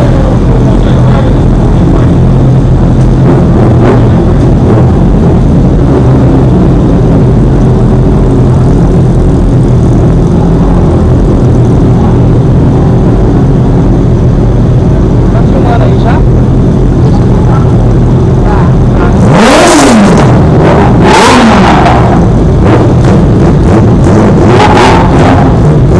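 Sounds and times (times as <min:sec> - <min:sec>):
motorcycle engine drone: 0:00.0 - 0:25.9.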